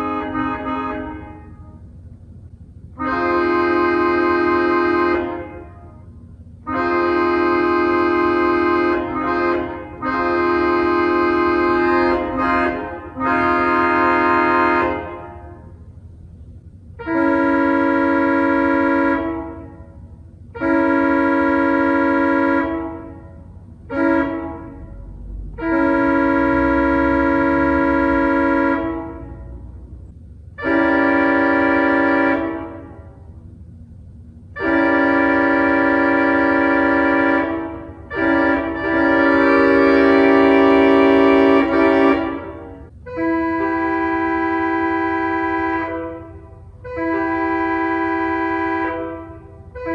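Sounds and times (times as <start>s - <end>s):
pipe organ chords like train horns: 0.0s - 49.9s.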